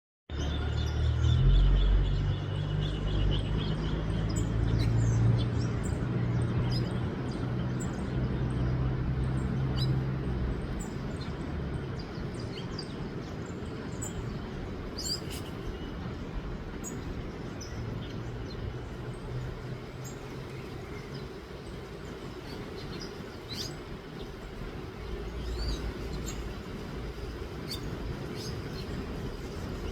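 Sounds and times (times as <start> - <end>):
small birds chirping: 0.3 - 29.9.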